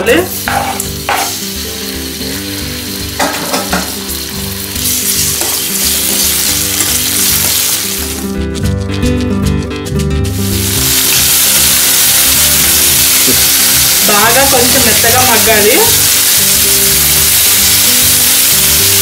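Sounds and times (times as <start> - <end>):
tomatoes sizzling in oil: 0.0 - 8.4, 10.2 - 19.0
background music: 0.0 - 19.0.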